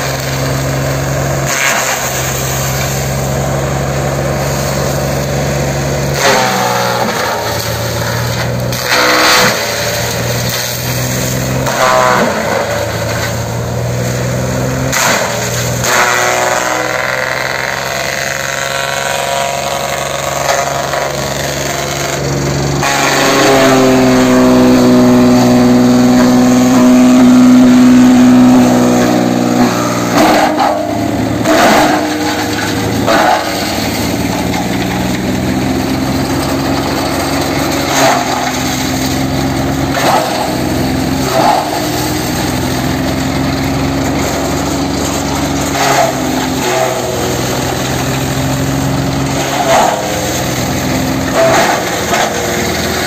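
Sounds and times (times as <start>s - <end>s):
shredder crunching bursts: 0.0s - 53.0s
tractor shredder drone and whine: 0.0s - 53.0s.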